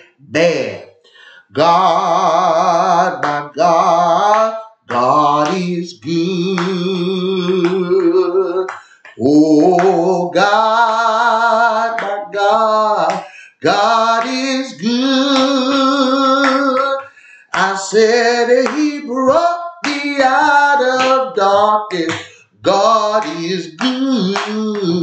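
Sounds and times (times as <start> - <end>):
person singing gospel song: 0.0 - 25.0.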